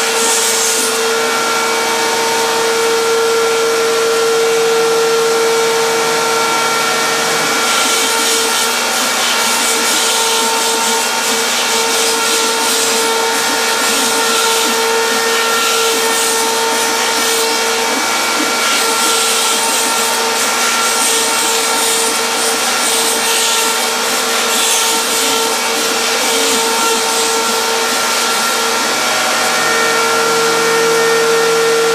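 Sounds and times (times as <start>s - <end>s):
router spindle motor whining: 0.0s - 31.9s.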